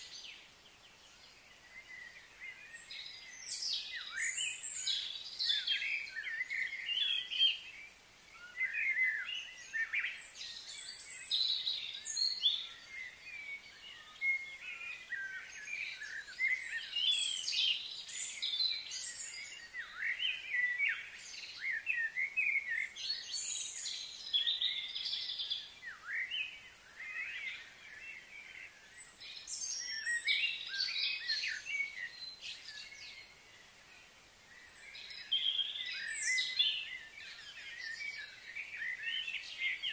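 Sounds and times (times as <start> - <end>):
birds chirping and singing: 0.0 - 39.9
faint high hiss: 0.0 - 39.9.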